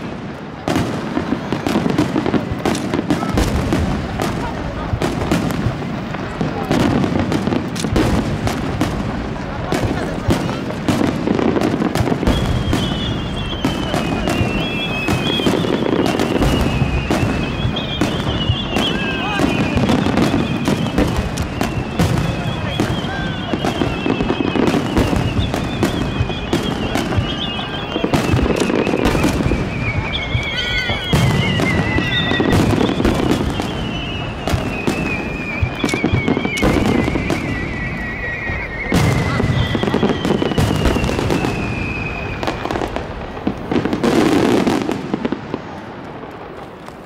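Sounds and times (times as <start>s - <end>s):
fireworks bursting and crackling: 0.0s - 47.0s
fireworks whistling down in pitch: 0.0s - 47.0s.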